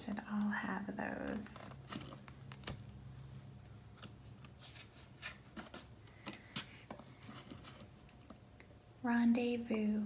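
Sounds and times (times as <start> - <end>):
cards clicking and rustling: 0.0 - 8.4.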